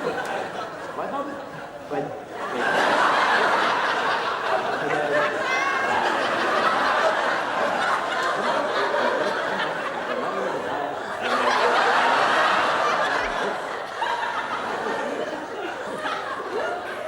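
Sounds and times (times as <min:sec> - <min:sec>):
studio audience laughing: 0:00.0 - 0:17.0.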